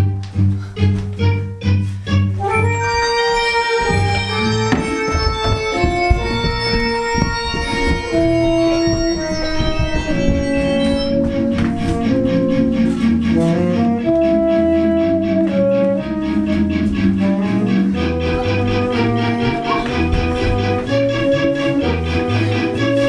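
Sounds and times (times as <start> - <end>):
instrumental music with held chords: 0.0 - 23.0.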